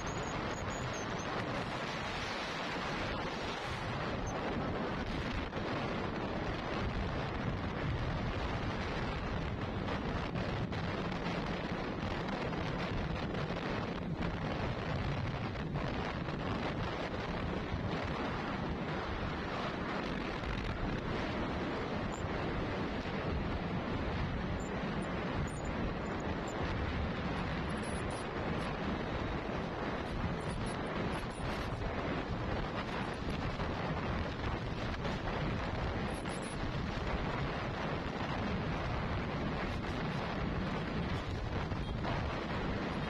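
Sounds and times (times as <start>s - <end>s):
vehicle road rumble: 0.0s - 43.0s
wind buffeting microphone: 0.0s - 43.0s.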